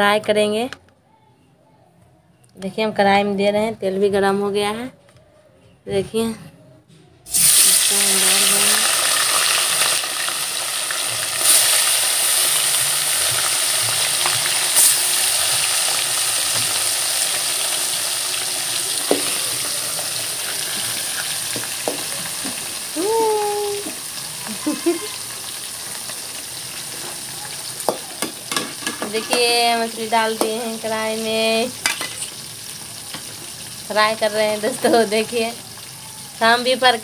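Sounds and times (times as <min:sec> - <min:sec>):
fish sizzling in hot oil: 0:07.3 - 0:37.0.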